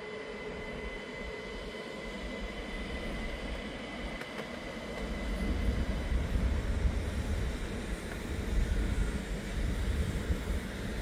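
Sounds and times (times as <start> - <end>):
train running past: 0.0 - 11.0.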